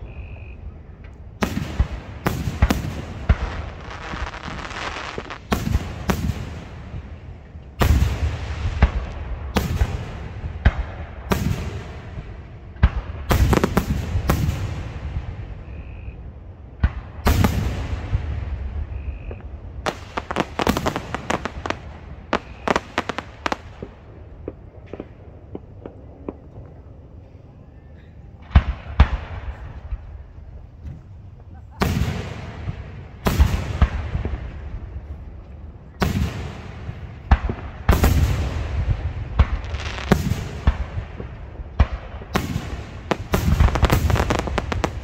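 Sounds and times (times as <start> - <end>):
fireworks bursting with rumbling echo: 0.0 - 27.3, 28.2 - 45.0
crackling fireworks reports: 0.0 - 45.0.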